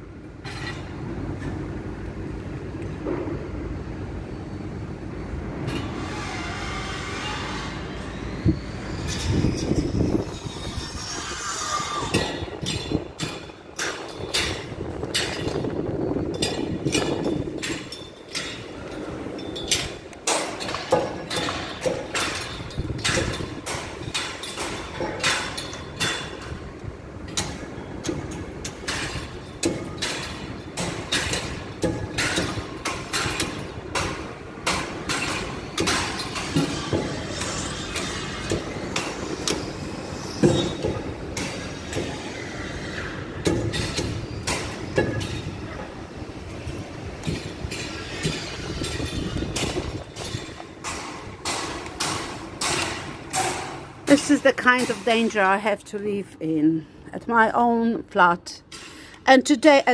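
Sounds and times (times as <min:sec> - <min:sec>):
low rumble of machinery: 0:00.0 - 0:57.5
knocks and metal clanks: 0:00.4 - 0:01.8, 0:02.8 - 0:03.6, 0:05.6 - 0:55.5.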